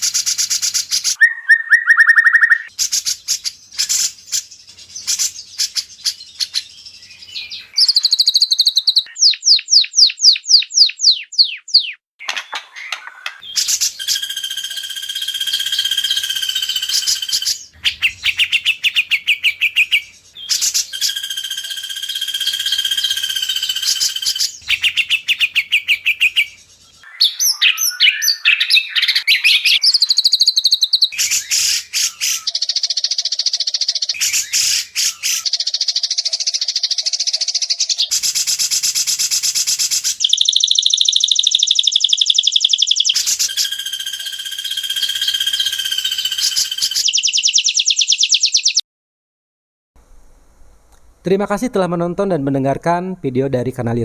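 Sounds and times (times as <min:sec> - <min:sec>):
bird song with whistles and trills: 0:00.0 - 0:48.8.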